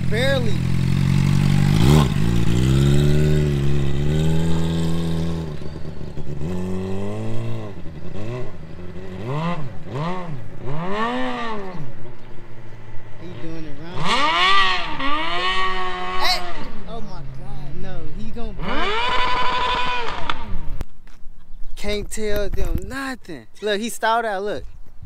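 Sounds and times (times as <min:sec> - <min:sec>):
motorcycle engine revving: 0:00.0 - 0:20.8.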